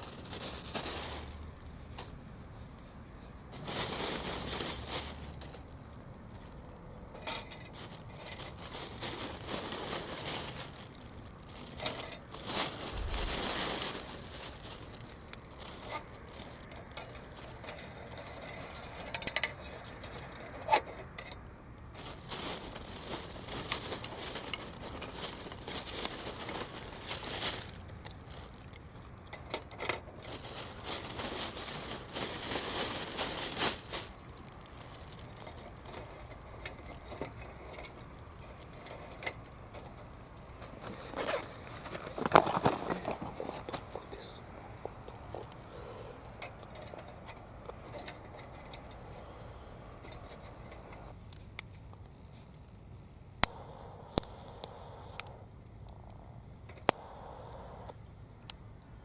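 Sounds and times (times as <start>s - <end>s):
rustling and crinkling: 0.0s - 52.8s.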